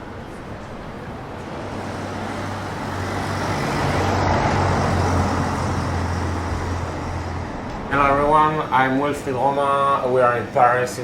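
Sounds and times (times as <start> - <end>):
tyre and street noise: 0.0 - 11.0
vehicle engine hum: 0.0 - 11.0.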